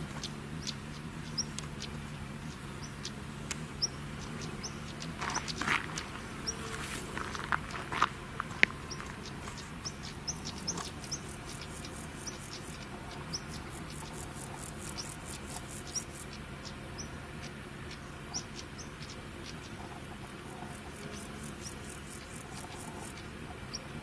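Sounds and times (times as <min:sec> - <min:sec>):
high hissy insect pulses: 0:00.0 - 0:24.0
insects chirping: 0:00.0 - 0:24.0.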